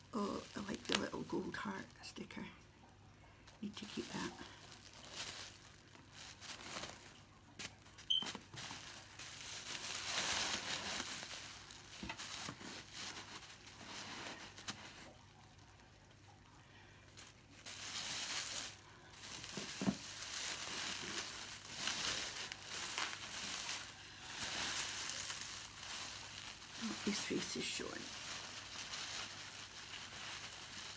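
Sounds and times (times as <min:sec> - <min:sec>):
bubble wrap crinkling and rustling: 0:00.0 - 0:02.4, 0:03.3 - 0:30.9.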